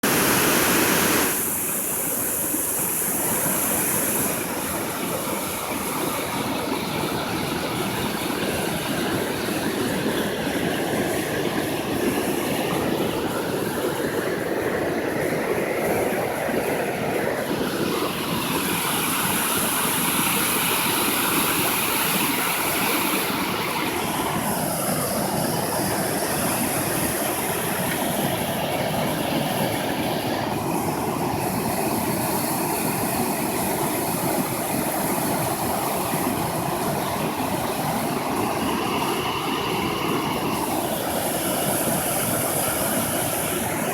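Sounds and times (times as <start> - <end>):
water pouring over a dam: 0.1 - 43.9.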